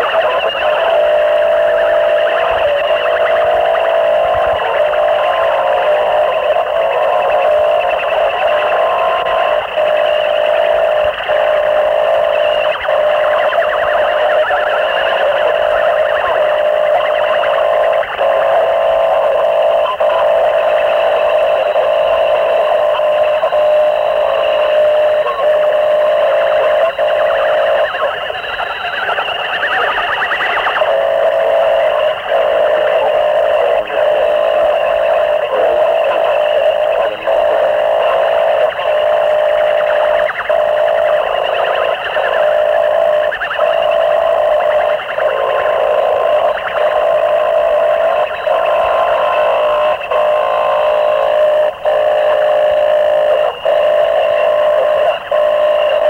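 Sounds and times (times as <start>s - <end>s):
harsh distorted noise music: 0.0s - 56.0s.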